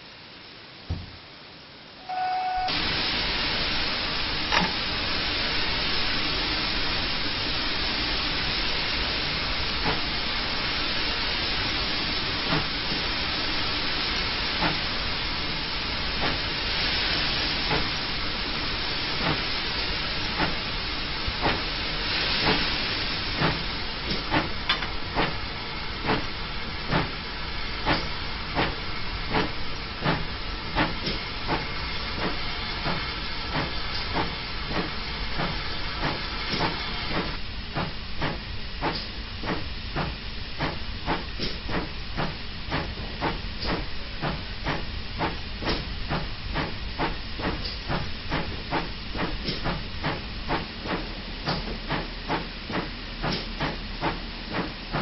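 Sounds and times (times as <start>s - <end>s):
steam hissing: 2.0s - 55.0s
steam locomotive exhaust beats: 2.0s - 55.0s.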